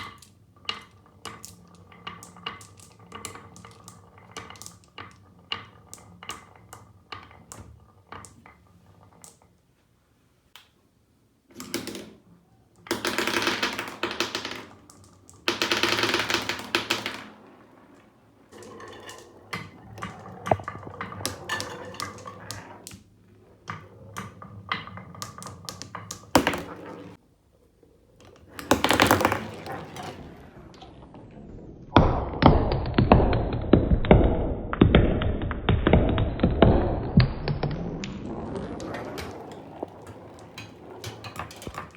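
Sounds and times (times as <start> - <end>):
marbles rolling and clicking: 0.0 - 10.8, 11.4 - 41.9.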